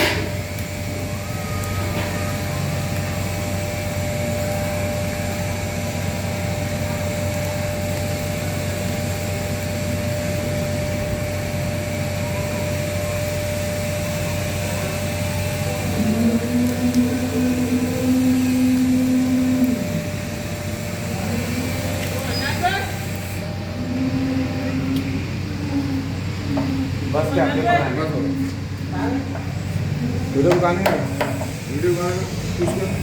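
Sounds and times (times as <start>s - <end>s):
welding machine humming: 0.0s - 33.0s.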